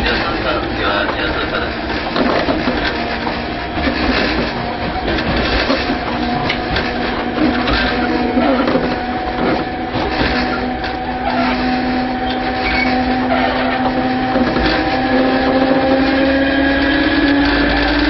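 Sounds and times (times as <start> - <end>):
track rumble and knocks: 0.0 - 18.0
train motor whine: 0.0 - 18.0.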